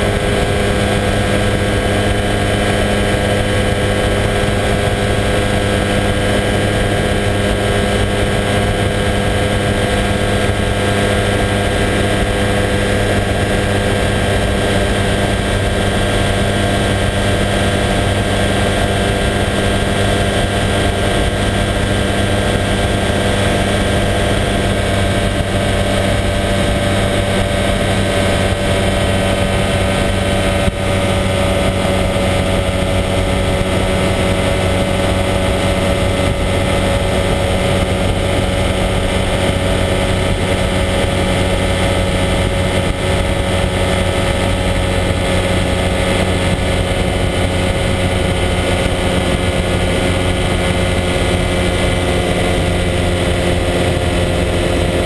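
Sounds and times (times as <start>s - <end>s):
engine and propeller running: 0.0s - 55.0s
wind rushing over microphone: 0.0s - 55.0s.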